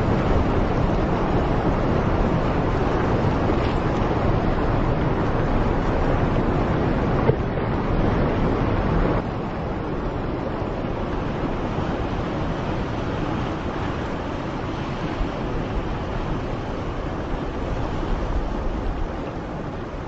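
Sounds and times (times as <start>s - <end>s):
surf rushing: 0.0s - 20.0s
wind buffeting microphone: 0.0s - 20.0s.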